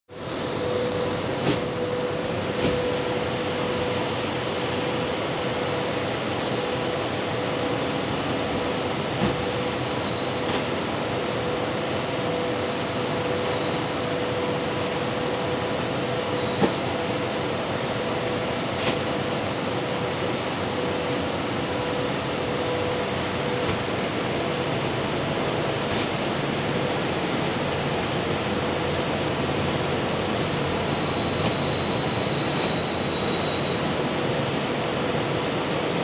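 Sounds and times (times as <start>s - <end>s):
machinery or fan drone: 0.1s - 36.0s.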